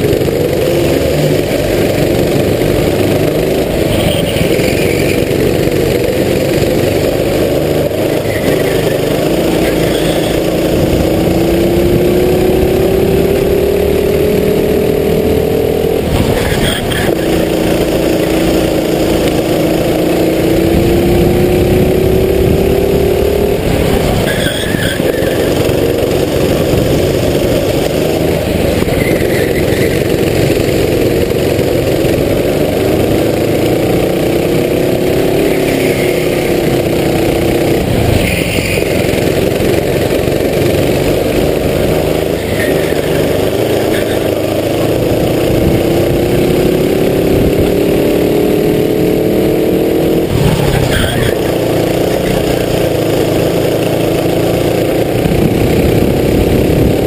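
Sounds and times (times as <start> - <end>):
racing kart engine at full throttle: 0.0 - 57.0.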